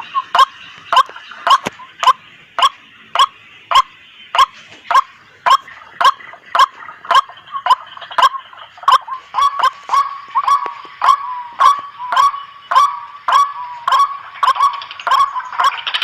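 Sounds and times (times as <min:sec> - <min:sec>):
faint steady noise: 0:00.0 - 0:16.0
waterhen sharp calls: 0:00.0 - 0:16.0.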